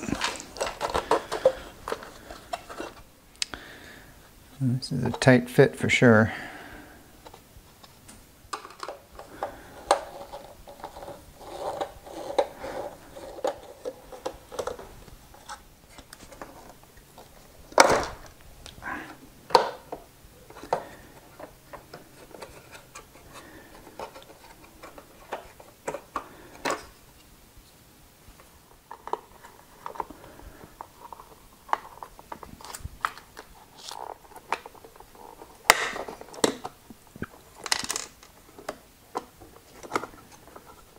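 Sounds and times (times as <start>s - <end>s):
plastic parts clicking and tapping: 0.0s - 3.6s, 8.5s - 18.8s, 19.5s - 27.0s, 28.4s - 40.9s.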